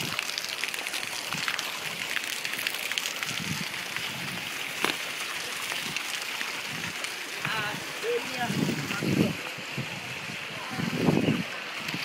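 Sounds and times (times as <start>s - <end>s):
fountain water splashing on paving: 0.0s - 12.0s.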